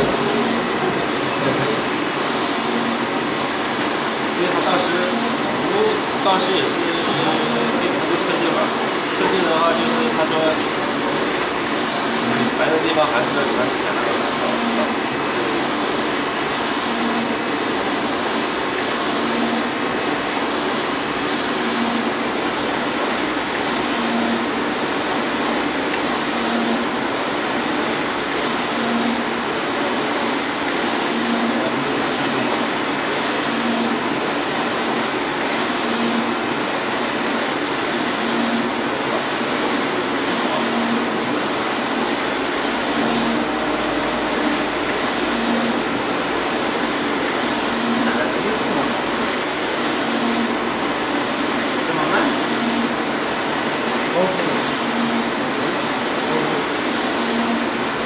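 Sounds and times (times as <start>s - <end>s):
printer carriage whirring hiss: 0.0s - 58.0s.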